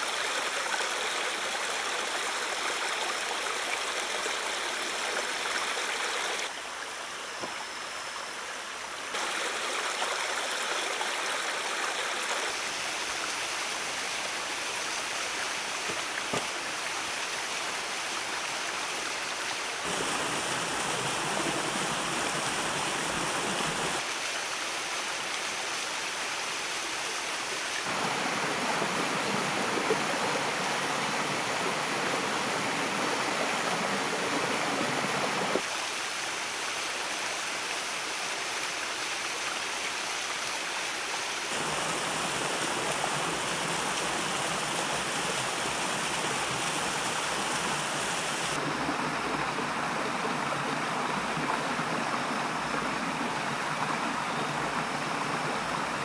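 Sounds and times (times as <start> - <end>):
river water rushing over stones: 0.0 - 56.0.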